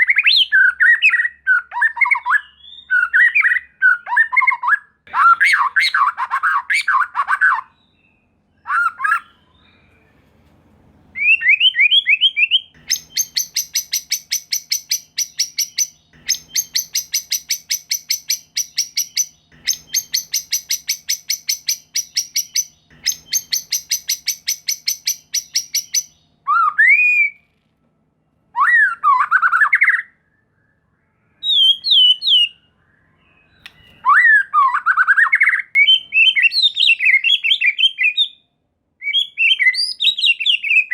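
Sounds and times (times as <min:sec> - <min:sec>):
bird singing whistled phrases: 0:00.0 - 0:09.9, 0:11.2 - 0:27.4, 0:28.6 - 0:38.4, 0:39.0 - 0:40.9.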